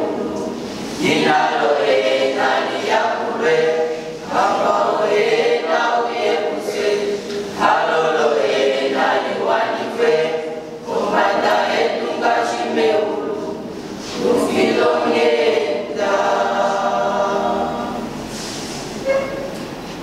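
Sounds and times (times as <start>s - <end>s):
children singing a cappella: 0.0s - 19.0s.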